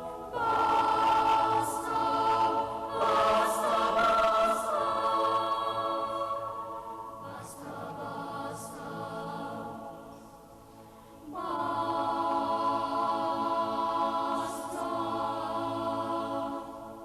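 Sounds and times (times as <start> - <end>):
boys' choir singing: 0.0 - 10.1, 11.3 - 17.0.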